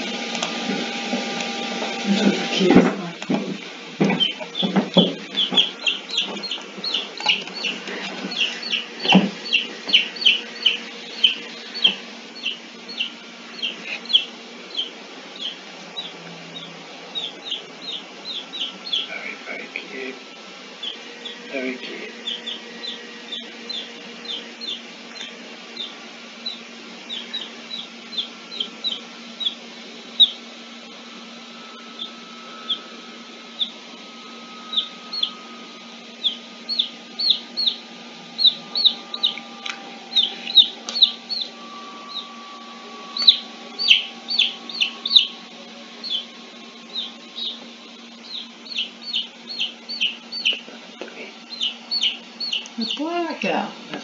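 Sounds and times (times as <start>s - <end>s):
steady low hum: 0.0s - 54.0s
birds chirping: 1.9s - 30.8s, 31.4s - 54.0s.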